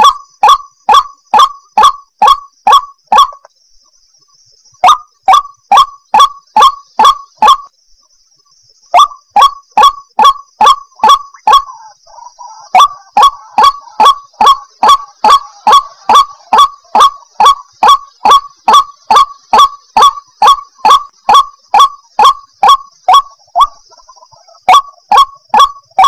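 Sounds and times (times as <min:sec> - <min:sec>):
waterhen harsh calls: 0:00.0 - 0:03.4, 0:04.8 - 0:07.6, 0:09.0 - 0:26.0.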